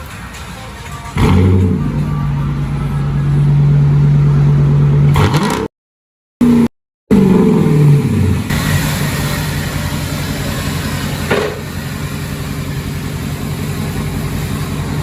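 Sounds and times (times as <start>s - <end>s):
car exhaust idling and revving: 0.0s - 5.7s, 6.4s - 15.0s.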